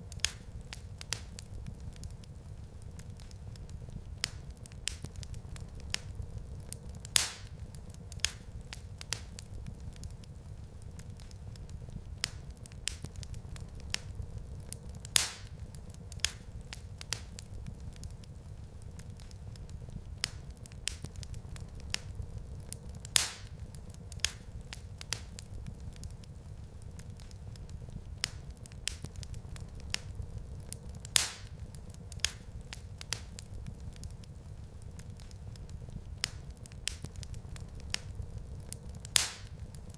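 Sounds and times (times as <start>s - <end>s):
low rumble of burning fire: 0.0s - 39.9s
wood fire snaps and pops: 0.0s - 39.9s.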